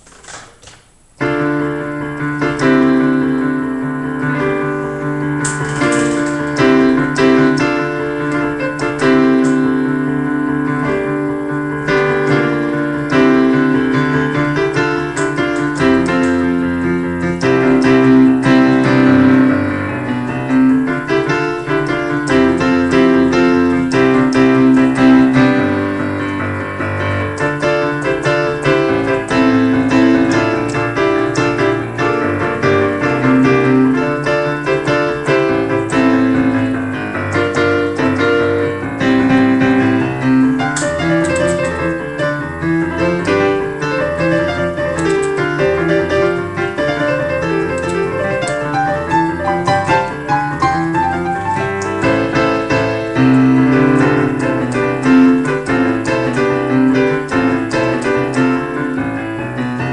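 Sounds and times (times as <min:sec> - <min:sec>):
fast solo piano piece: 0:00.0 - 0:59.9.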